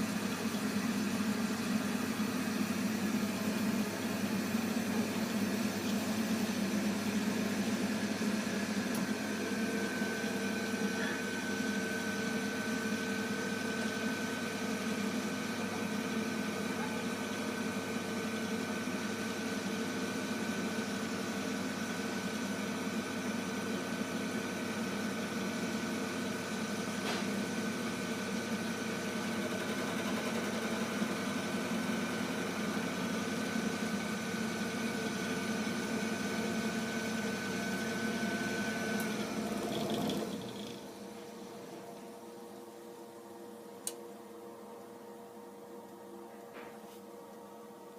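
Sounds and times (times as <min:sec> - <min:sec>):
heating boiler humming: 0:00.0 - 0:47.9.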